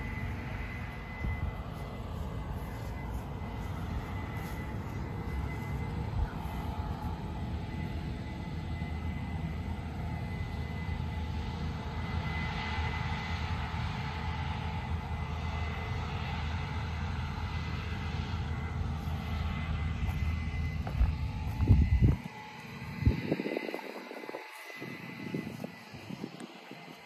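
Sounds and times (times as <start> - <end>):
combine harvester engine drone: 0.0 - 27.0
faint high whine: 0.0 - 27.0.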